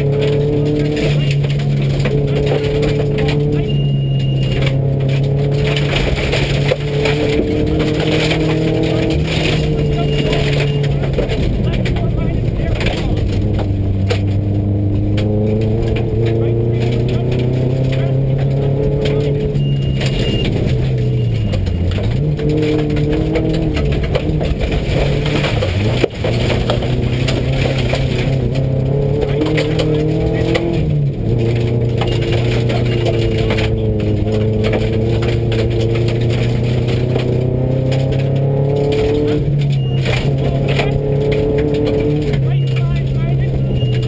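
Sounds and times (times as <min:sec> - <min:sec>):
gravel road noise: 0:00.0 - 0:44.0
rally car engine running hard: 0:00.0 - 0:44.0.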